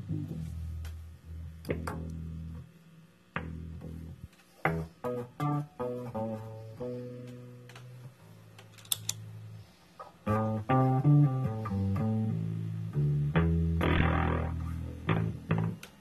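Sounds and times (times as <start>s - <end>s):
guitar picked notes through wah pedal: 0.0s - 2.7s, 3.3s - 8.2s, 10.0s - 16.0s.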